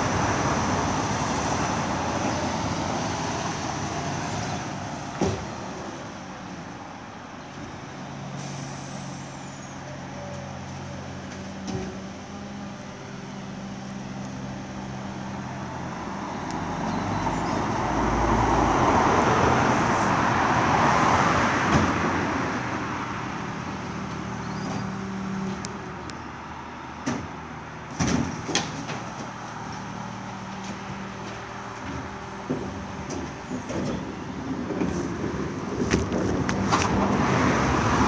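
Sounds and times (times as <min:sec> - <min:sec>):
diesel engine humming: 0:00.0 - 0:38.0
passing vehicle: 0:00.0 - 0:38.0.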